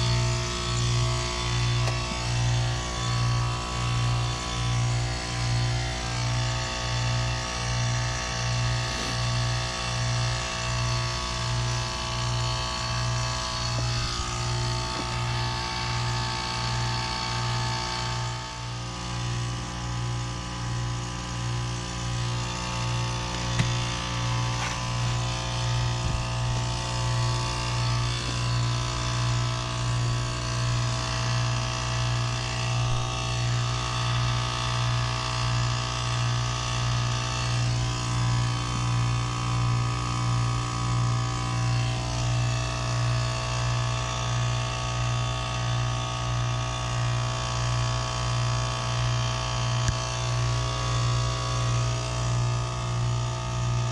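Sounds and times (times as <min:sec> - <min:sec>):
heat pump compressor hum: 0:00.0 - 0:53.9.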